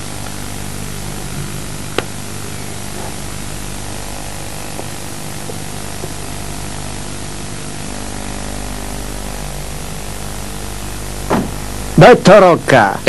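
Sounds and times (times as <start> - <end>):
low hum: 0.0 - 13.0
steady hiss: 0.0 - 13.0.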